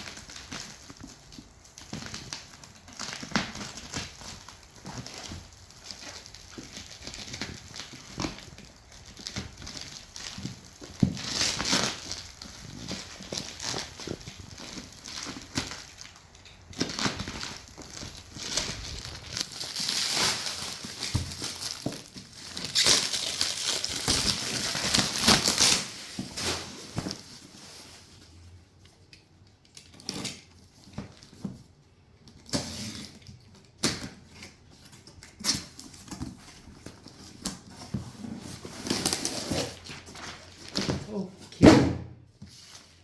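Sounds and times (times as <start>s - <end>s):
packaging rustling and tearing: 0.0s - 28.4s, 32.3s - 41.3s.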